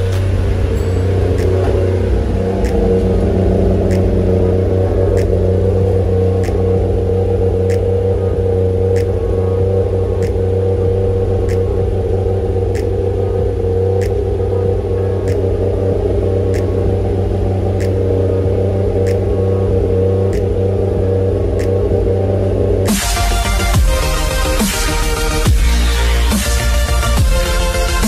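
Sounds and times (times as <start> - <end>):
faint ticking: 0.0 - 24.0
car engine idling: 0.0 - 28.0.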